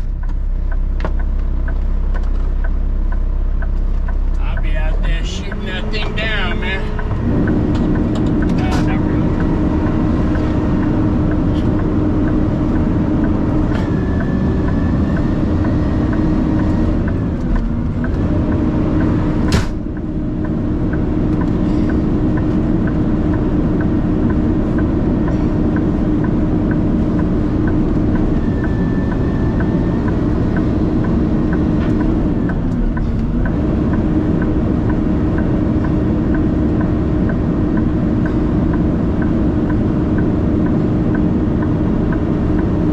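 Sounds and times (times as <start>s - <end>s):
engine and road drone: 0.0s - 42.9s
light regular ticking: 0.1s - 42.9s.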